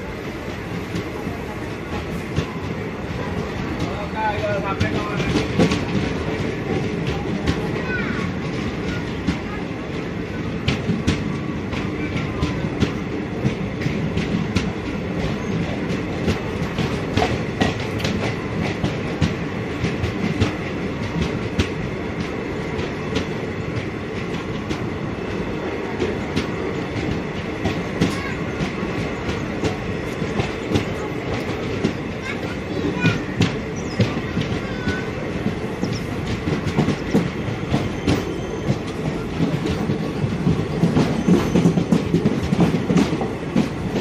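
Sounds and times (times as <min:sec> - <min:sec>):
train wheels rumbling: 0:00.0 - 0:44.0
wheels clicking on rails: 0:00.0 - 0:44.0.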